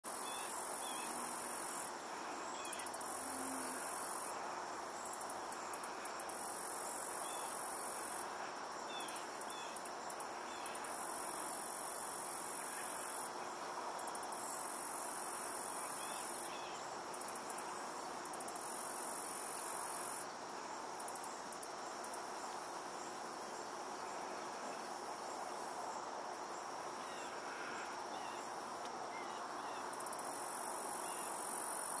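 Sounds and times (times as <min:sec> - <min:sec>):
hissing insect trill: 0:00.1 - 0:32.0
insects chirring: 0:00.1 - 0:32.0.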